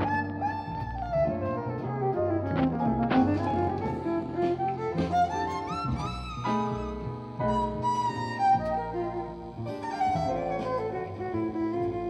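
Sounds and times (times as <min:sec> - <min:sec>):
instrumental music with bass line: 0:00.0 - 0:12.0.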